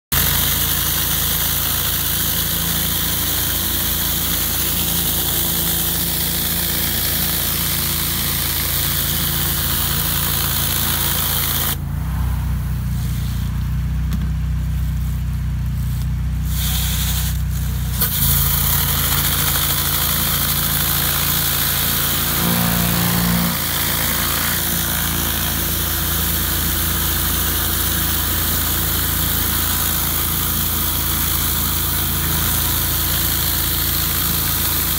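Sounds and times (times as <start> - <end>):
water jets spraying concrete: 0.1 - 11.8, 12.8 - 34.9
pressure washer engine running: 0.1 - 34.9.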